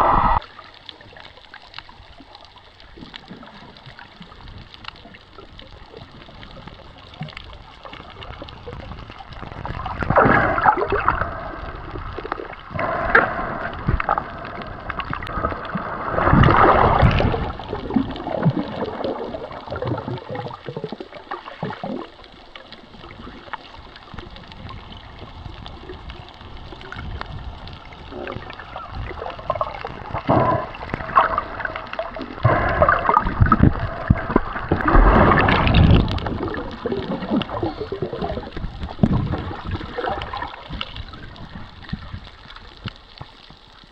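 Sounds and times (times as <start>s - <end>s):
seawater sloshing and gurgling: 0.0s - 42.8s.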